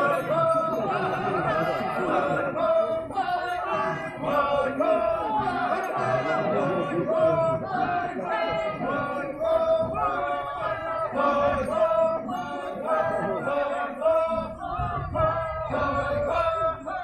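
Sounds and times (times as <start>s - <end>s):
male voices chanting in unison: 0.0s - 17.0s.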